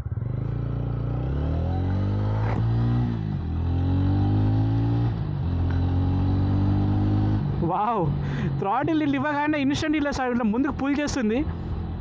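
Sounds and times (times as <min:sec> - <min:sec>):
motorcycle engine accelerating: 0:00.0 - 0:09.9.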